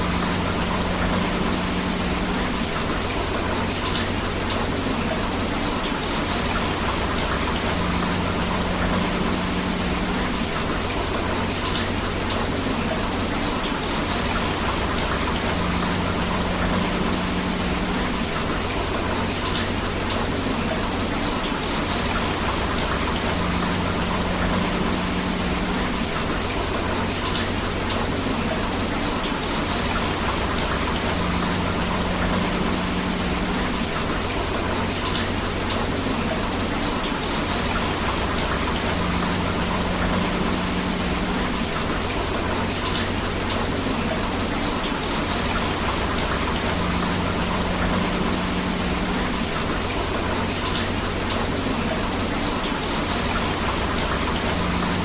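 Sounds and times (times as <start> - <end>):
rain and rushing river water: 0.0 - 55.0.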